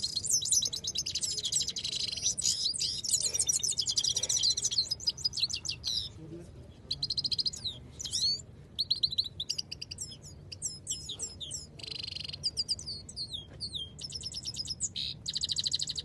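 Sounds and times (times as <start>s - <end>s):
goldfinch twittering song: 0.0s - 6.2s, 6.9s - 16.0s.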